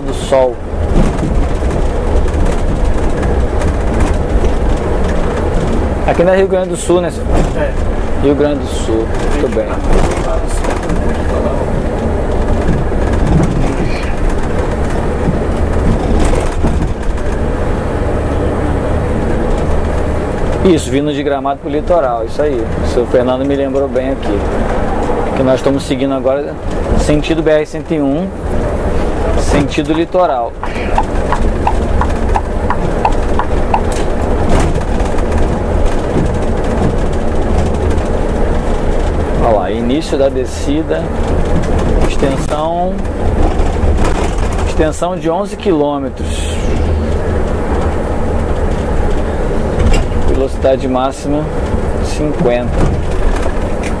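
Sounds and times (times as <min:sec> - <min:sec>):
bus engine hum: 0:00.0 - 0:54.0
road and drivetrain noise: 0:00.0 - 0:54.0.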